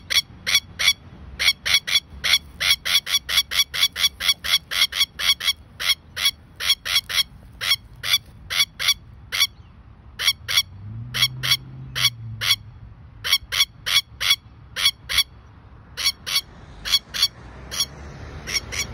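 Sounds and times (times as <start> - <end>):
lapwing alarm calls: 0.0 - 12.6, 13.2 - 18.9.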